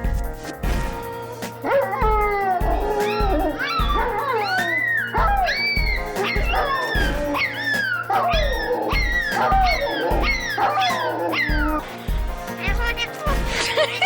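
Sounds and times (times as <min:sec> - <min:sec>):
music with a steady beat: 0:00.0 - 0:14.0
dog yipping and whining: 0:01.7 - 0:14.0.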